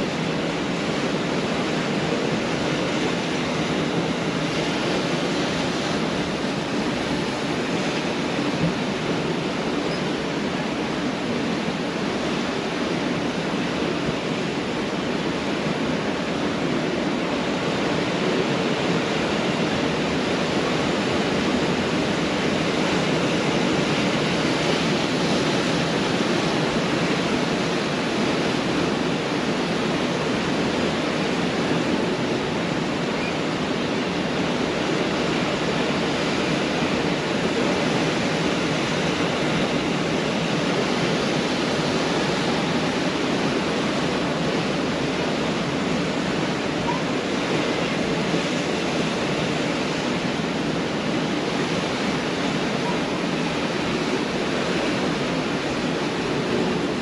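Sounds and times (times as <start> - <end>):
surf breaking on a beach: 0.0 - 57.0.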